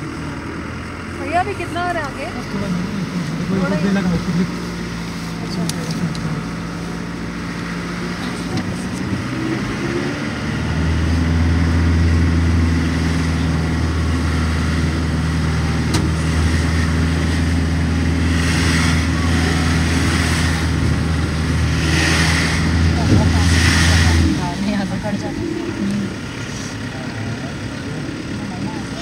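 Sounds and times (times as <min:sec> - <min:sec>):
vehicle engine drone from cabin: 0:00.0 - 0:29.0.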